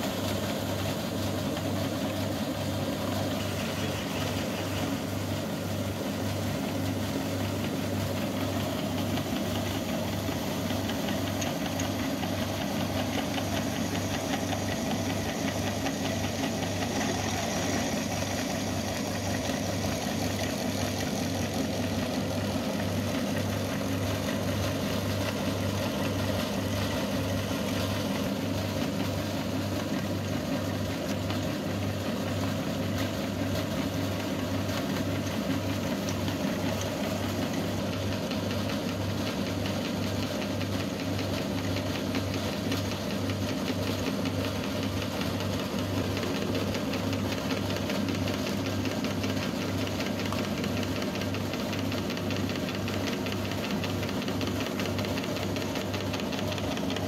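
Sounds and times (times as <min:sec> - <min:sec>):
meat grinder running: 0:00.0 - 0:57.0.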